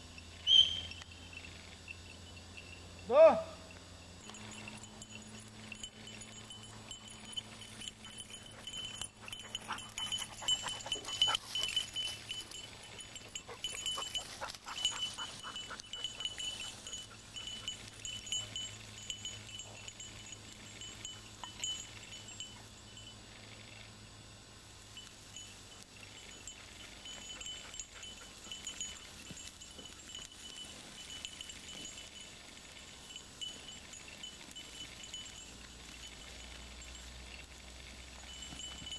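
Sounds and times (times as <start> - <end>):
small bell jingling: 0.0 - 23.8, 24.8 - 38.9.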